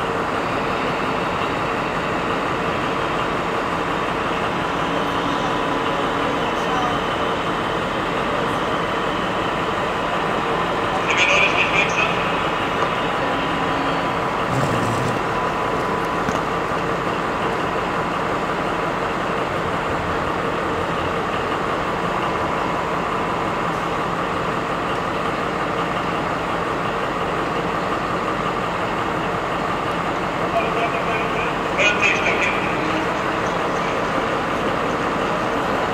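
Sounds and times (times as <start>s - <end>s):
diesel locomotive engine idling: 0.0s - 35.9s.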